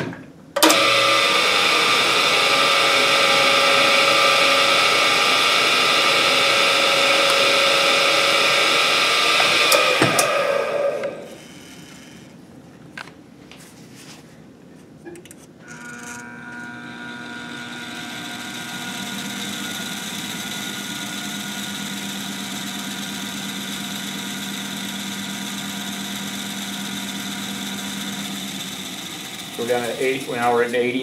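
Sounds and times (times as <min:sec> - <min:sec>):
balancing machine humming: 0:00.6 - 0:12.4, 0:15.6 - 0:31.0.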